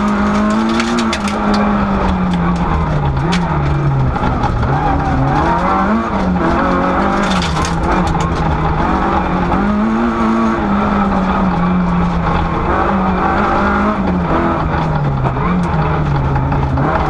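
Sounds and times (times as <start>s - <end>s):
crackling clatter: 0.0s - 17.0s
rally car engine revving: 0.0s - 17.0s.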